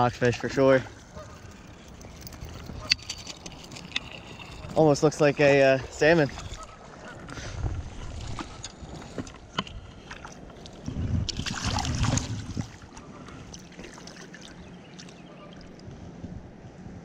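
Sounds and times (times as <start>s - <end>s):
creek water splashing: 0.0s - 16.0s.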